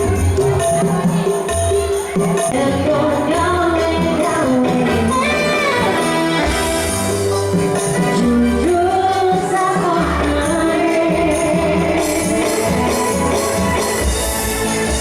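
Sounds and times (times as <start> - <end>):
pop song with singing: 2.0 - 15.0.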